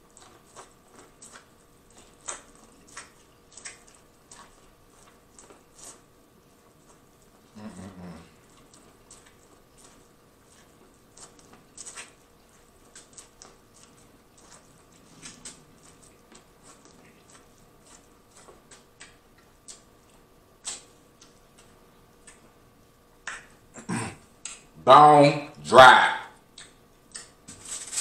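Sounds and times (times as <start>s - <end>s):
corn being chewed: 0.0s - 24.8s, 26.3s - 28.0s.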